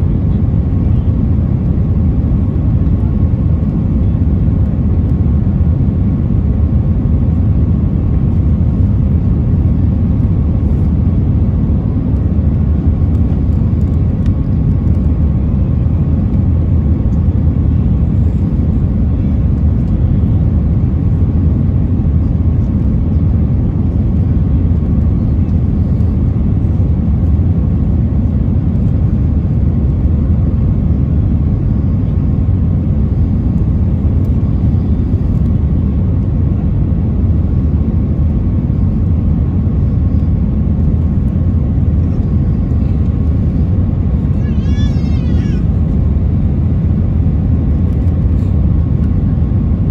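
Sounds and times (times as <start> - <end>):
faint steady whine: 0.0 - 49.9
jet engine roar in cabin: 0.0 - 49.9.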